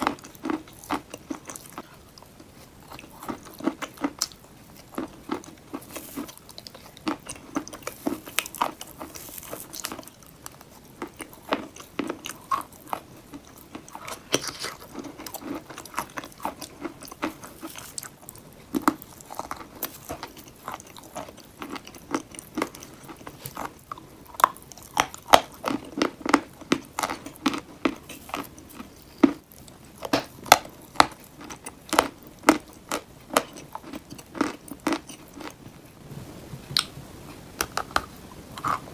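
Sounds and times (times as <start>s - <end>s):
chewing chalk crunches: 0.0s - 35.6s.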